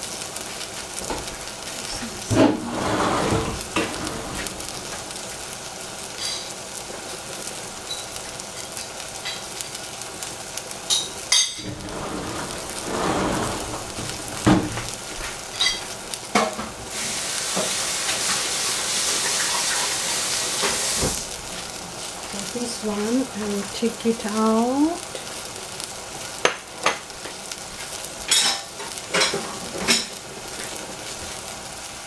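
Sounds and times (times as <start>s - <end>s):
mushrooms sizzling in saucepan: 0.0s - 32.0s.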